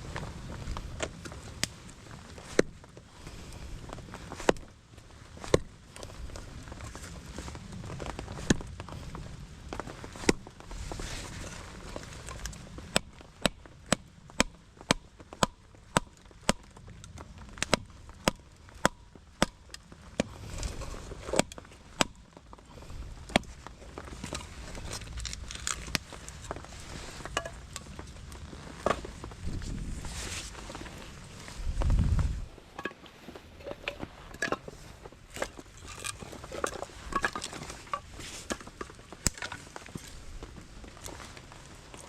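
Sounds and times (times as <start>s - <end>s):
firewood being split: 0.0s - 42.0s.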